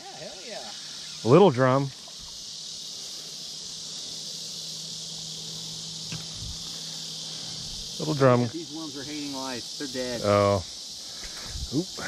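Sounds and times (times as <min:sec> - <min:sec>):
chorus of insects droning: 0:00.0 - 0:12.0.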